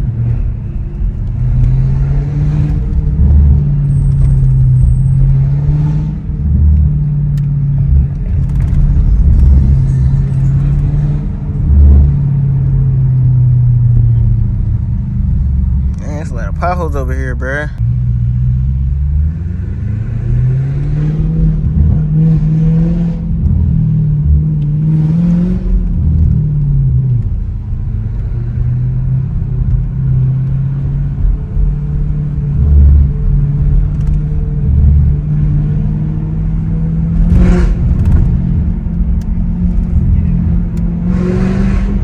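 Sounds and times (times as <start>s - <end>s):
car exhaust droning: 0.0s - 42.0s.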